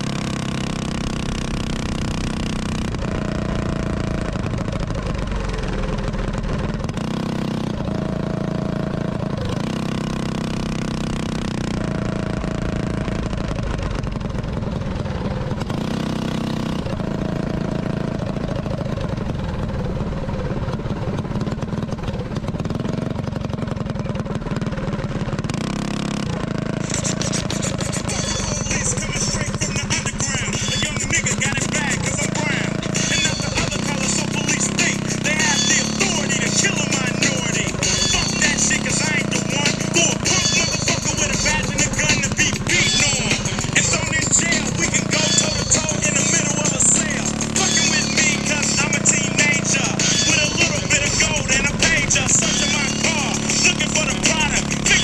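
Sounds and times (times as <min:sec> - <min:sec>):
small bike engine revving: 0:00.0 - 0:55.0.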